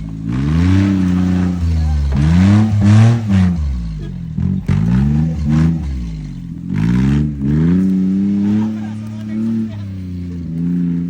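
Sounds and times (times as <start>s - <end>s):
small truck engine accelerating: 0.0s - 11.0s.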